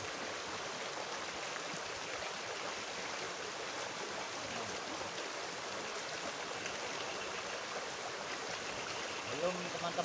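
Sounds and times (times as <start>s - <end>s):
river rushing over stones: 0.0s - 10.0s.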